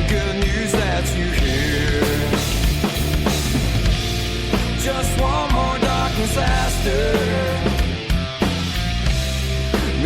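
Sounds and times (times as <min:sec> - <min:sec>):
heavy rock band playing: 0:00.0 - 0:10.0.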